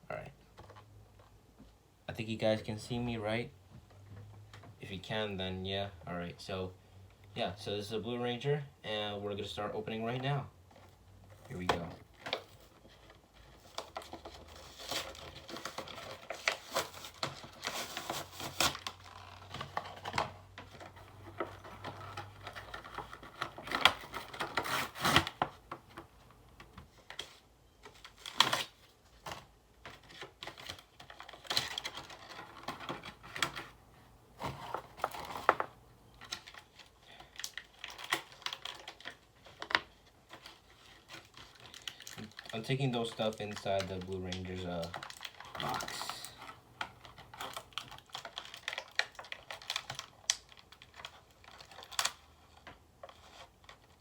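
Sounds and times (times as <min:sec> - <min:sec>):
toy box packaging clicks and rustles: 0:10.1 - 0:54.0.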